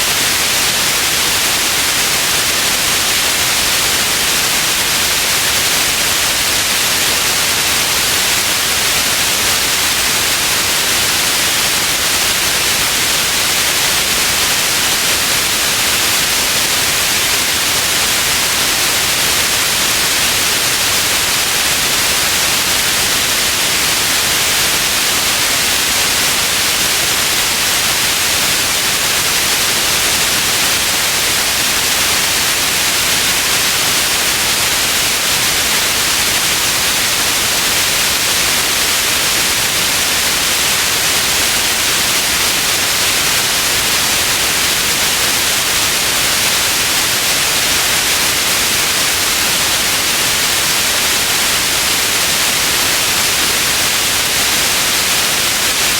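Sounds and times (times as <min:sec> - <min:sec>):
white noise hiss: 0:00.0 - 0:55.9.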